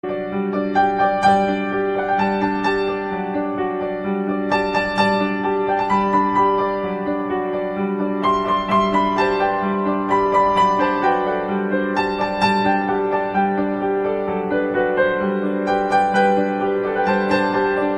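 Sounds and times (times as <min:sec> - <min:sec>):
slow piano piece: 0:00.0 - 0:17.9.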